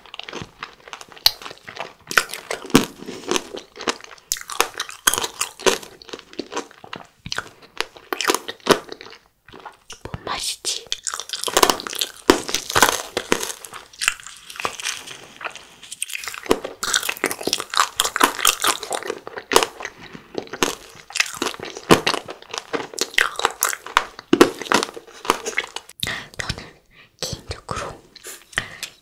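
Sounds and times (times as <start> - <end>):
chewing crunchy frozen candy: 0.0 - 29.0.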